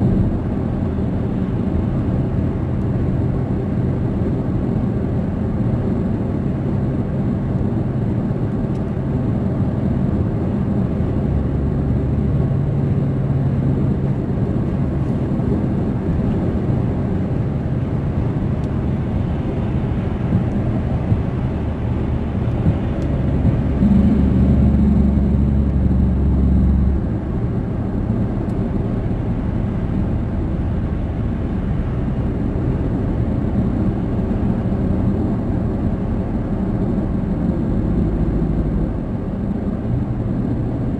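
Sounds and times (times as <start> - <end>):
car interior road and engine rumble: 0.0 - 40.9.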